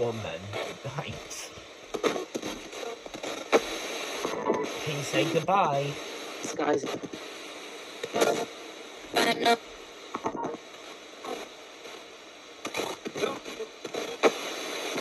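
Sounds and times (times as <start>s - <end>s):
chopped broadcast snippets: 0.0s - 15.0s
radio static hiss: 0.0s - 15.0s.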